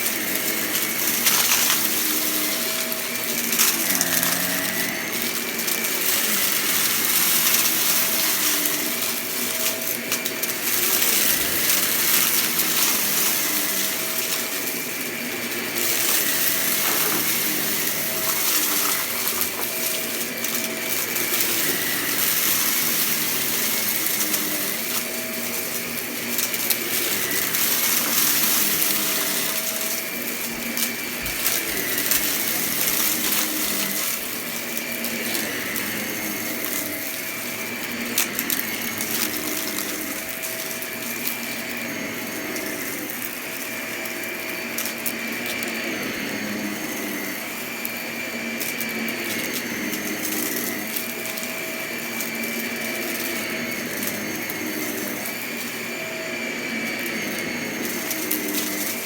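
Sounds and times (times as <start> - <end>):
debris crackling in vacuum: 0.0 - 59.0
vacuum cleaner running: 0.0 - 59.0.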